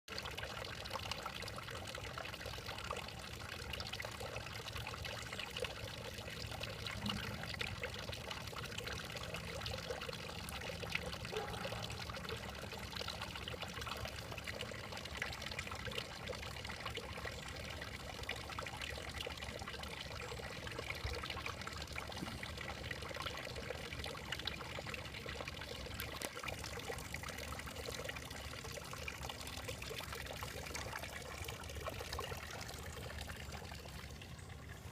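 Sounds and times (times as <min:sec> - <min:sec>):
trickling water: 0:00.0 - 0:34.9.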